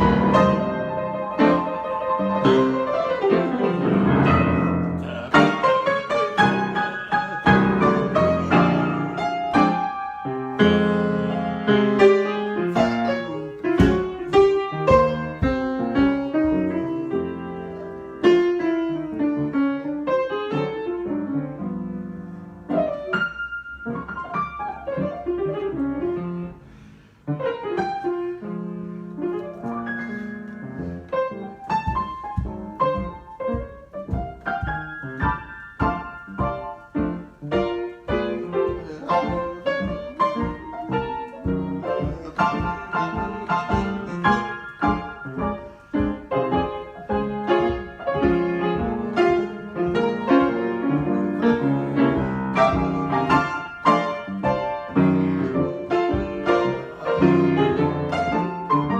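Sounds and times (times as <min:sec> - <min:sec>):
improvised piano playing: 0:00.0 - 0:58.9.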